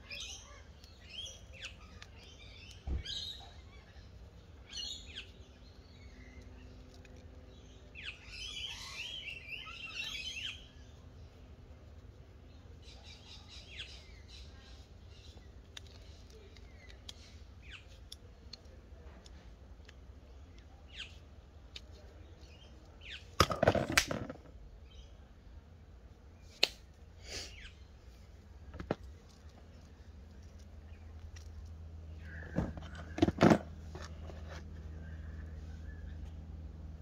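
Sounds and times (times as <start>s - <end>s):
birds chirping: 0.0s - 25.7s, 27.2s - 37.0s.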